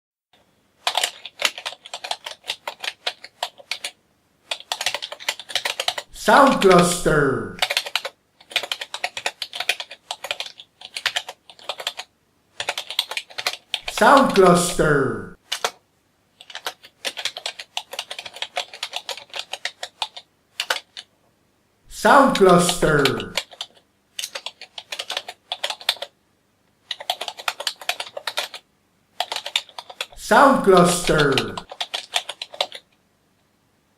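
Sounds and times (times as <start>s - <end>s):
computer keyboard typing: 0.8s - 6.9s, 7.6s - 14.7s, 15.5s - 15.8s, 16.4s - 21.1s, 22.1s - 26.2s, 26.8s - 28.6s, 29.2s - 32.9s.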